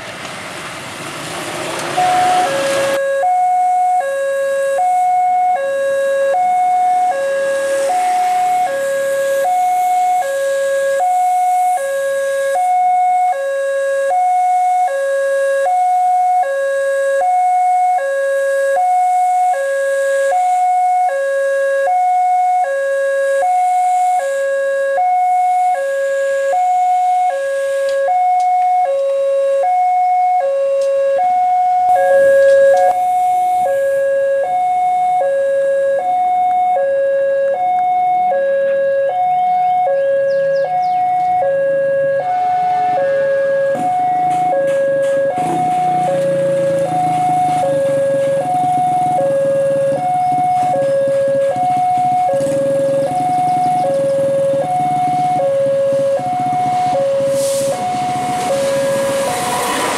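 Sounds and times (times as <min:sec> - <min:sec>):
level-crossing two-tone alarm: 0:02.0 - 0:59.9.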